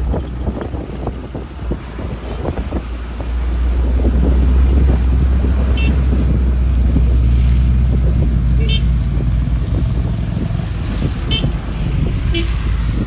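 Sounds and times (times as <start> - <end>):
car engine and tyres rumbling: 0.0 - 13.0
wind on microphone: 0.0 - 13.0.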